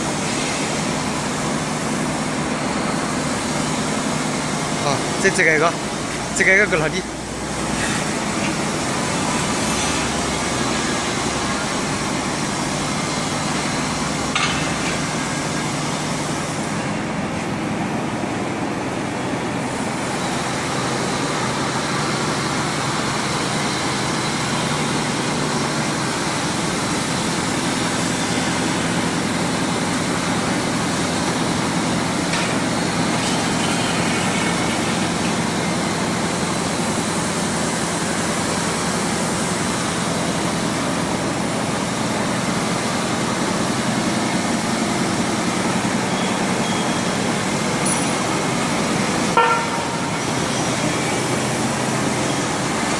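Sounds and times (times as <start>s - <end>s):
press machine hum and hiss: 0.0s - 52.9s.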